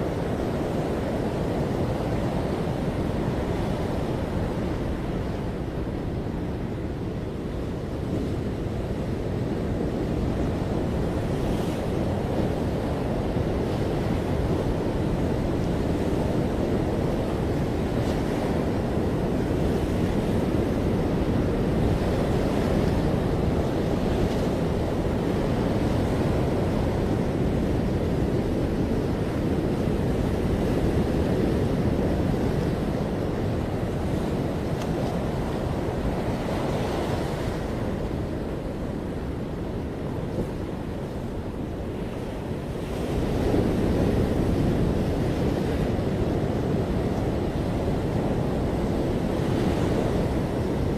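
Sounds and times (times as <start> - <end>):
ocean surf rushing: 0.0 - 50.9
wind buffeting microphone: 0.0 - 50.9.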